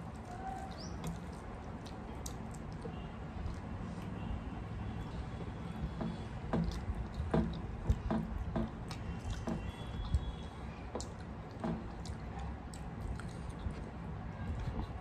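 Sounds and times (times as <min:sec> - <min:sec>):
wet chewing smacks: 0:00.0 - 0:04.2, 0:05.1 - 0:15.0
fingers squishing food: 0:00.0 - 0:15.0.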